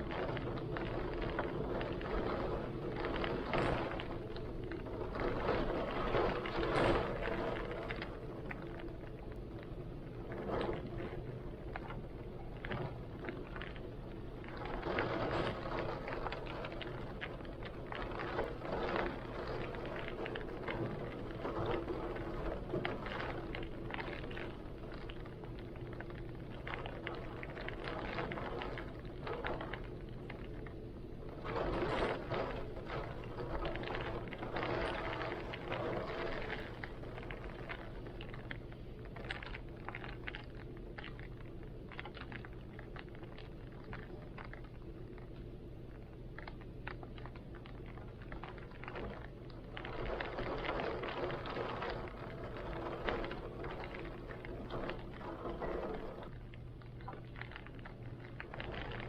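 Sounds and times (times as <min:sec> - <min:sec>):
heavy rain: 0:00.0 - 0:39.6, 0:48.3 - 0:56.6.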